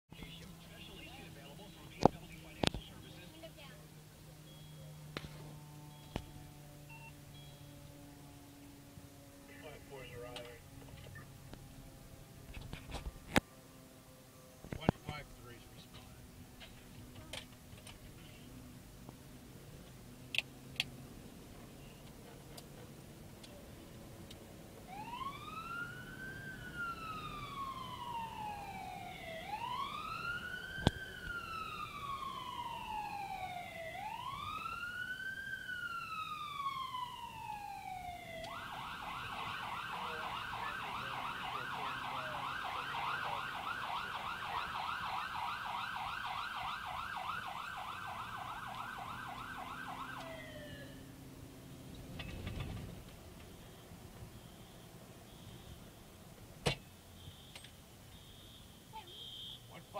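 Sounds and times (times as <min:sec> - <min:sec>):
emergency vehicle siren: 0:00.2 - 0:19.0, 0:19.7 - 0:56.2.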